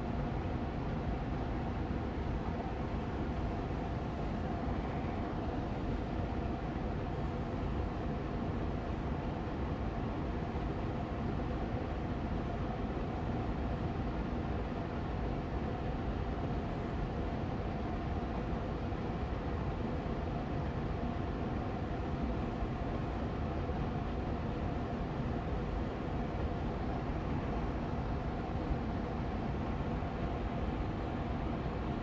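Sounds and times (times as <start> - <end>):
air purifier fan running: 0.0 - 32.0.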